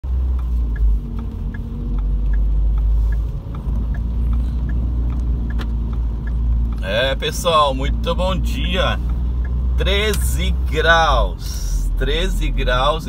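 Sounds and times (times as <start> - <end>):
car road rumble on wet road: 0.0 - 13.0
turn signal ticking: 0.0 - 13.0.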